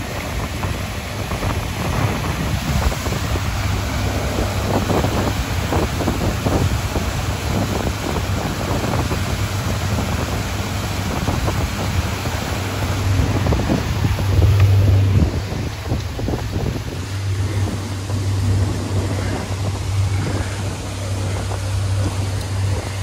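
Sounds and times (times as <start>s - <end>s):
churning boat wake: 0.0s - 23.0s
outboard motor running: 0.0s - 23.0s
wind buffeting microphone: 0.0s - 23.0s.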